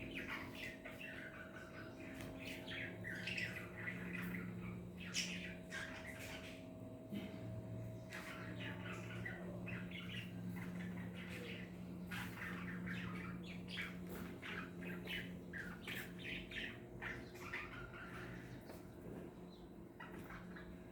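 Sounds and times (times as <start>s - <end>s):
cockatiels squawking and chirping: 0.0s - 6.6s, 7.2s - 19.2s, 20.0s - 20.9s
low steady hum: 0.0s - 20.9s.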